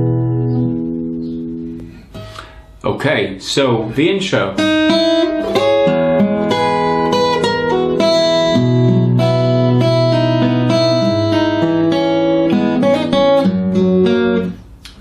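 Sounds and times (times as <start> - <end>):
acoustic guitar melody: 0.0 - 3.3, 3.9 - 15.0.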